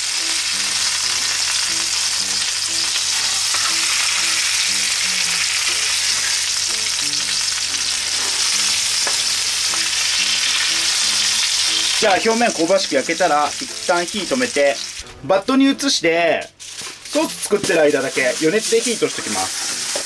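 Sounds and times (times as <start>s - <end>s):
chicken sizzling in a frying pan: 0.0s - 15.0s, 17.1s - 20.0s.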